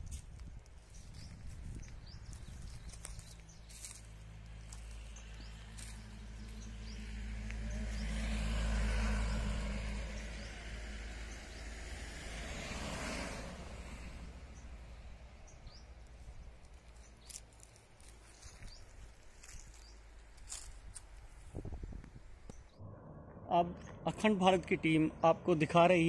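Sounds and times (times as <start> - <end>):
cars passing on road: 0.0 - 22.0, 22.6 - 26.0.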